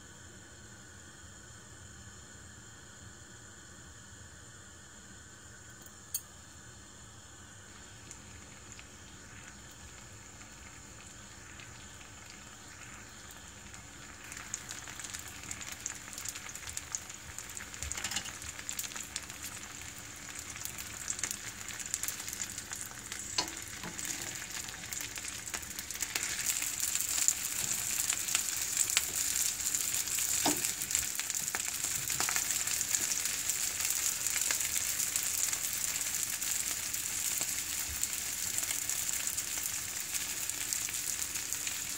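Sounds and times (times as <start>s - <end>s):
food sizzling in oil: 6.4s - 41.9s.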